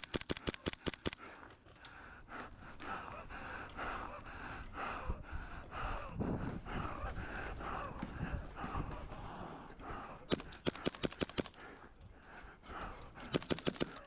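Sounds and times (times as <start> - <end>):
heavy rhythmic breathing: 0.0 - 14.0.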